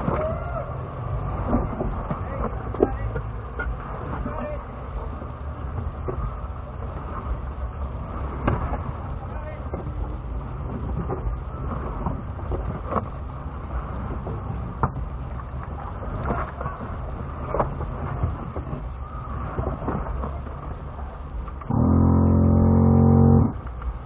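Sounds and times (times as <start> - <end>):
engine running at low crawl: 0.0 - 24.0.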